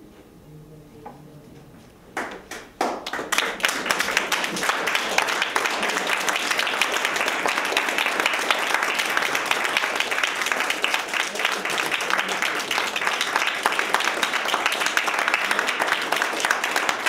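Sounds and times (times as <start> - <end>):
audience applauding: 2.2 - 17.0.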